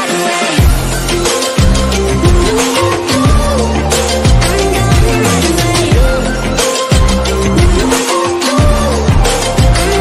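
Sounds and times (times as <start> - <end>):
heavy pulsing bass: 0.6 - 8.0, 8.6 - 10.0.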